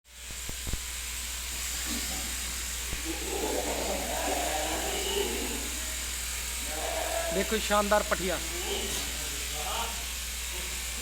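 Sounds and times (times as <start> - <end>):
steady hiss: 0.1 - 11.0
faint indistinct murmur: 1.8 - 11.0.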